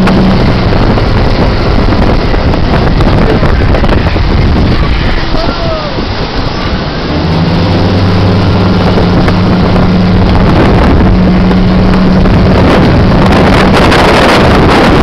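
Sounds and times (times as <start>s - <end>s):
motorboat engine running: 0.0s - 15.0s
rushing water: 0.0s - 15.0s
wind buffeting microphone: 0.0s - 15.0s.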